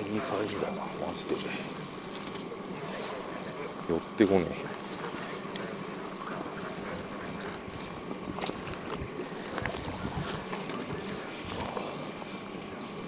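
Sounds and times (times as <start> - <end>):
fishing reel buzzing: 0.0 - 3.7, 4.8 - 13.0
outdoor background noise: 0.0 - 13.0.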